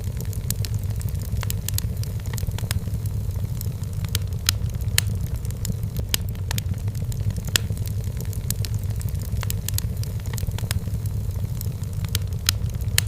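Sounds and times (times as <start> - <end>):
fire flames rumbling: 0.0 - 13.0
firewood crackling and popping: 0.0 - 13.0.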